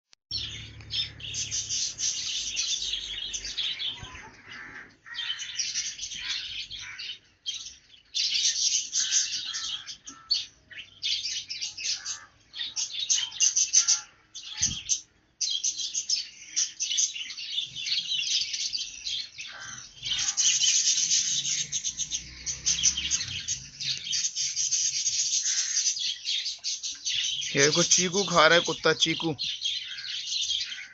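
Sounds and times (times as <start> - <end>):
small birds chirping: 0.3 - 30.9.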